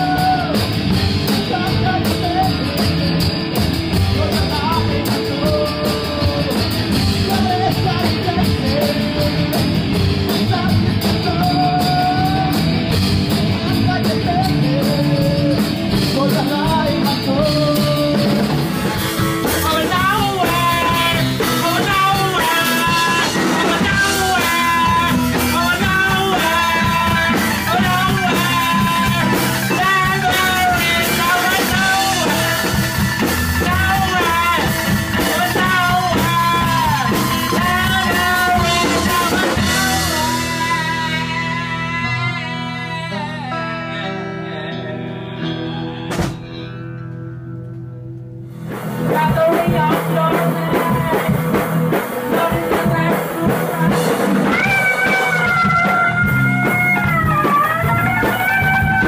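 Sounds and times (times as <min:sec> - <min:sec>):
rock music with singing: 0:00.0 - 0:59.0.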